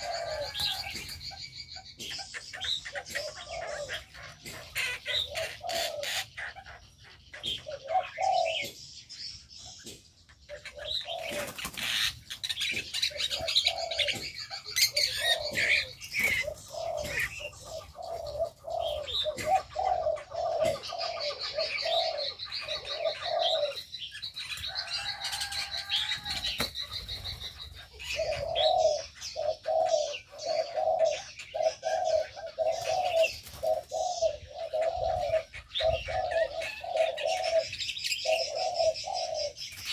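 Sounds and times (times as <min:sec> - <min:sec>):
bird chirps and trills: 0:00.0 - 0:39.9
birds cooing: 0:00.0 - 0:39.9.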